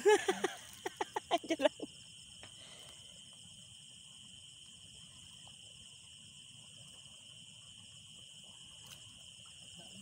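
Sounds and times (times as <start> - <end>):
crickets and insects trilling: 0.0 - 10.0.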